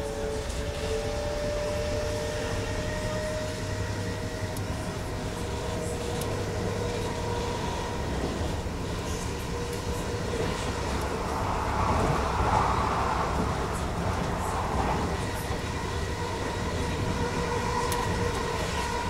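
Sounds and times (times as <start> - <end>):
train traction motors whining: 0.0 - 19.0.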